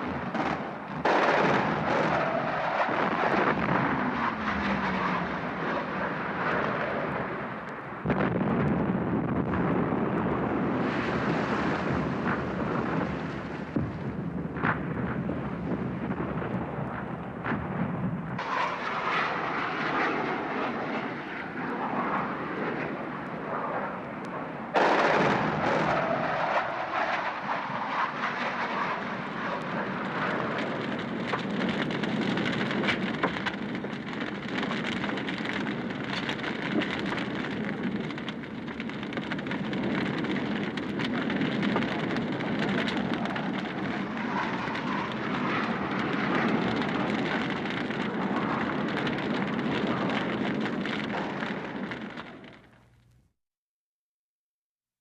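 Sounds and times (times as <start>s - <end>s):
airplane engine rumble: 0.0s - 8.1s, 8.8s - 53.3s.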